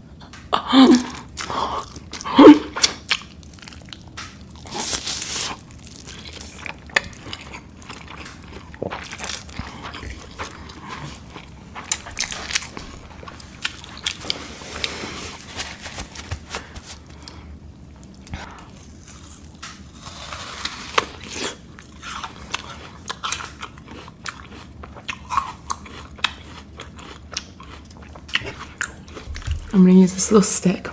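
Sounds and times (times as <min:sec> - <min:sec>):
biting and chewing: 0:01.2 - 0:17.4, 0:18.0 - 0:29.8.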